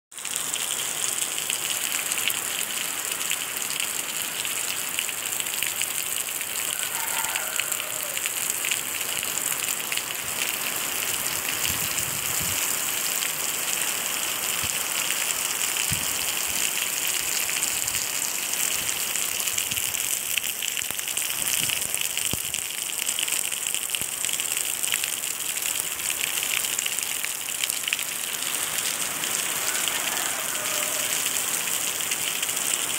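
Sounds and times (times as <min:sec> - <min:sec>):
heavy rain on muddy ground: 0:00.1 - 0:32.9.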